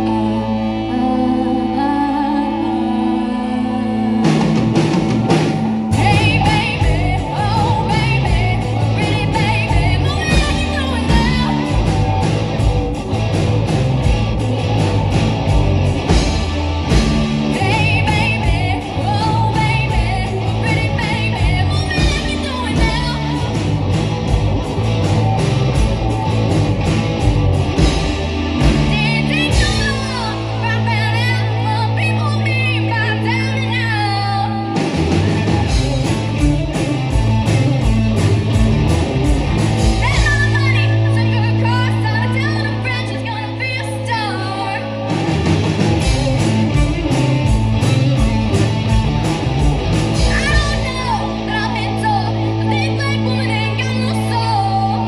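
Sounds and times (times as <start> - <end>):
girl singing lead: 0.0 - 26.8, 27.8 - 38.5, 39.4 - 45.3, 50.2 - 55.0
drums: 0.0 - 55.0
electric guitars: 0.0 - 55.0.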